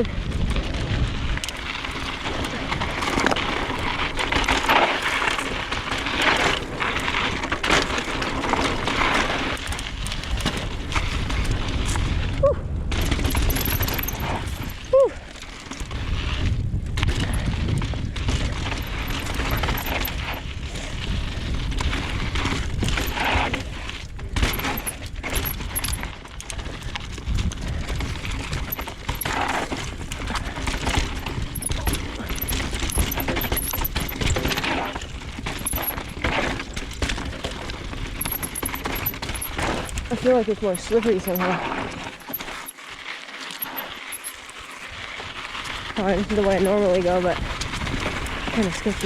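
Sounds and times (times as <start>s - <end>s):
mountain bike rattling on dirt trail: 0.0s - 49.0s.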